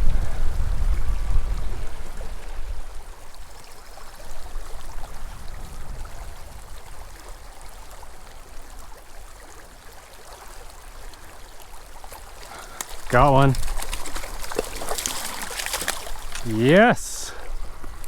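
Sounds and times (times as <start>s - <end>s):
creek flowing over rocks: 0.5s - 18.0s.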